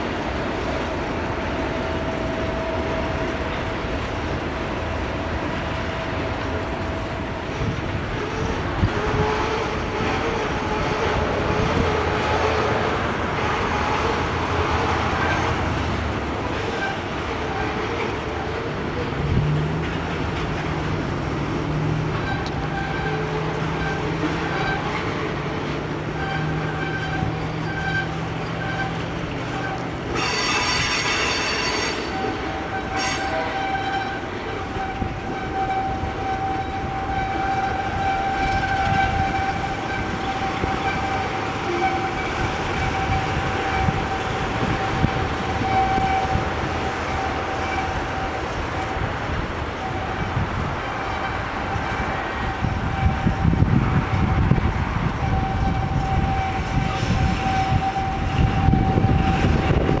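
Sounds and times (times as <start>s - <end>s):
freight train rumbling: 0.0s - 60.0s.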